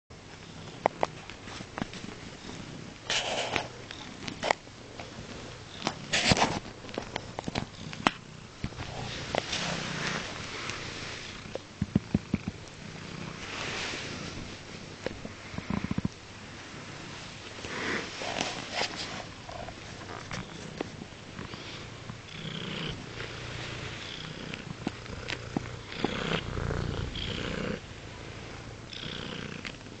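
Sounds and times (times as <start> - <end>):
cat purring: 0.2 - 30.0.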